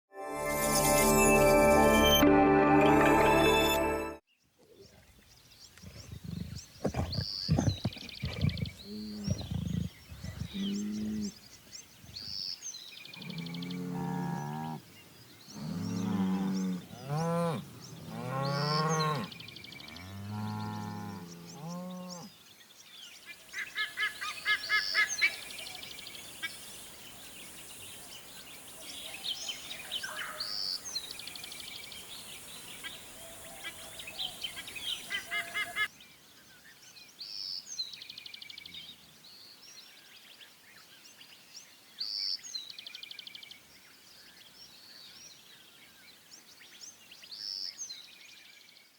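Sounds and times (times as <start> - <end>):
birds chirping and trilling: 4.3 - 48.9
faint outdoor hiss: 4.3 - 48.9.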